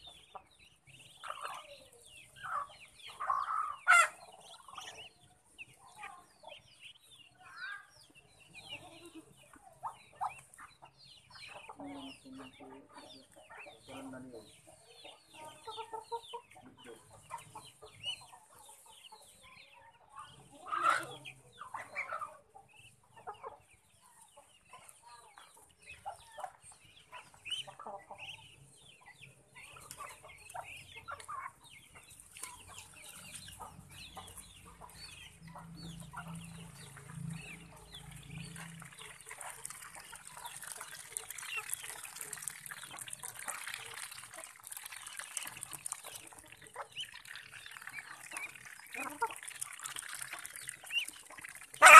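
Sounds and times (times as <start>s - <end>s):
ducklings and chicks peeping: 0.0s - 51.9s.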